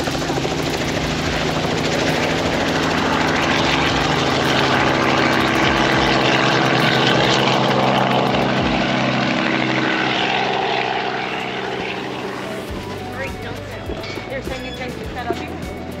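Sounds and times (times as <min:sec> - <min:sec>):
helicopter rotor and turbine: 0:00.0 - 0:16.0.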